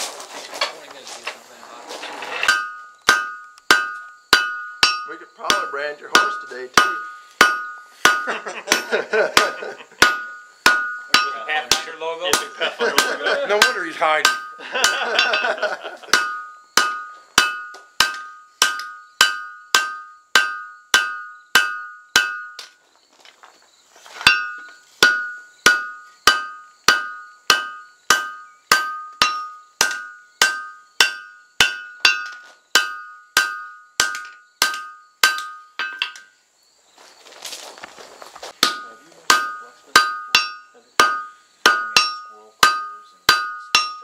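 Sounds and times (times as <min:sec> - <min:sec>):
anvil ringing: 0:02.4 - 0:22.7, 0:24.2 - 0:36.3, 0:38.6 - 0:44.0
hammer striking hot steel: 0:02.4 - 0:22.7, 0:24.2 - 0:36.3, 0:38.6 - 0:44.0.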